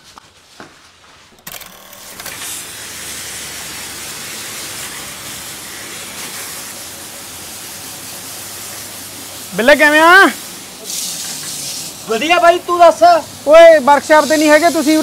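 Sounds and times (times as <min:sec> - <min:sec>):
water jet spraying on concrete: 0:02.2 - 0:15.0.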